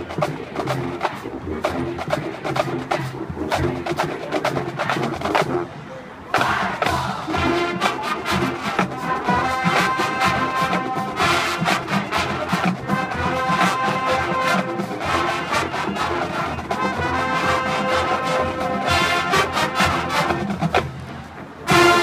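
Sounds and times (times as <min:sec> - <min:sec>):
steady drum beat: 0:00.0 - 0:05.7, 0:06.3 - 0:22.0
brass chords: 0:00.0 - 0:22.0.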